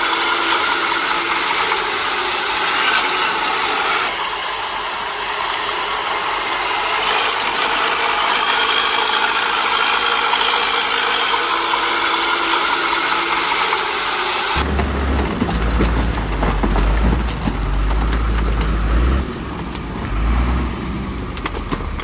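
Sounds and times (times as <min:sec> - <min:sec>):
heavy machinery diesel engine: 0:00.0 - 0:22.0.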